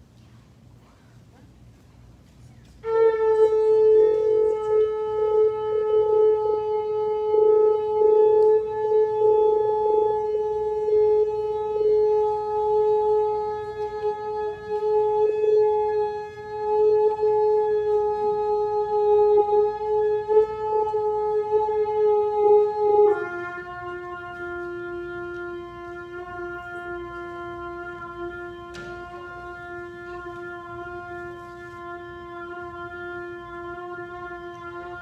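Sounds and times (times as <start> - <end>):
shofar blast: 2.8 - 35.0.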